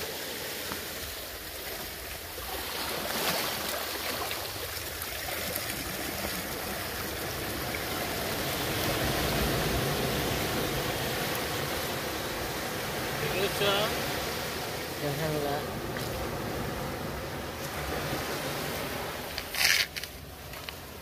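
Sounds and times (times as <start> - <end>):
seawater rushing over rocks: 0.0 - 21.0.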